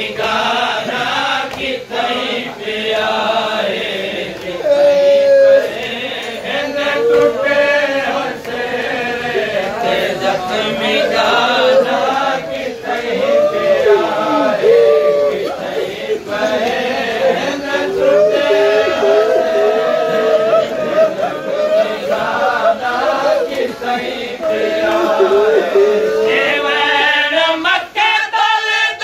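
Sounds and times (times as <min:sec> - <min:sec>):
men chanting a lament: 0:00.0 - 0:29.0.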